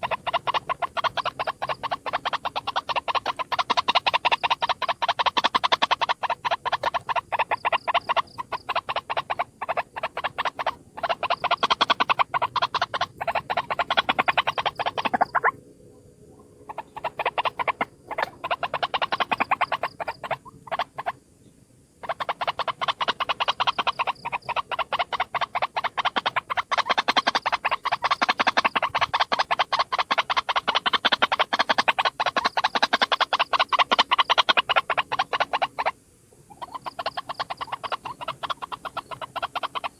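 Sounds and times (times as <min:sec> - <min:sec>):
waterhen calling: 0:00.0 - 0:15.6, 0:16.4 - 0:21.2, 0:22.0 - 0:39.9.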